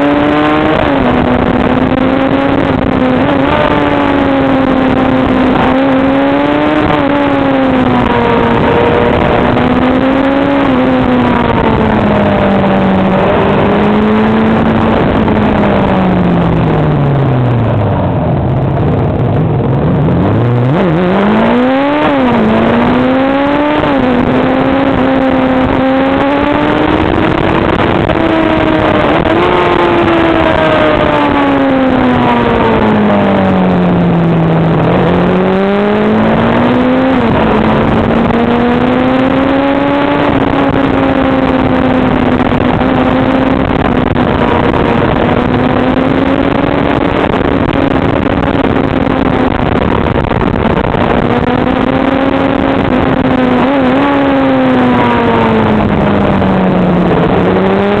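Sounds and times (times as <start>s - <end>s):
motorcycle engine running: 0.0s - 58.0s
road and wind hiss: 0.0s - 58.0s.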